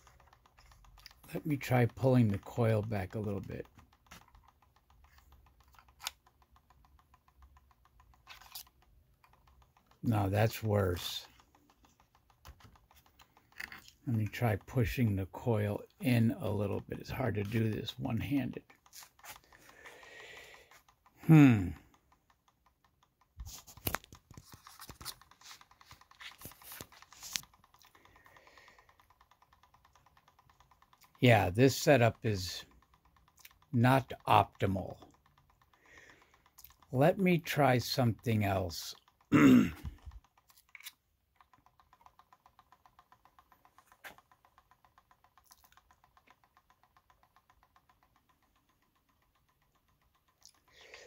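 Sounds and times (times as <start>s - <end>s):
pulse motor clicking faintly: 0.0s - 51.0s
rapid even ticking of rotor: 0.0s - 51.0s.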